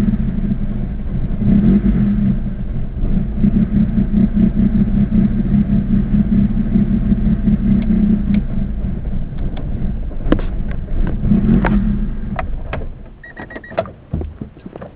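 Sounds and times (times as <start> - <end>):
engine rough idle: 0.0 - 14.9.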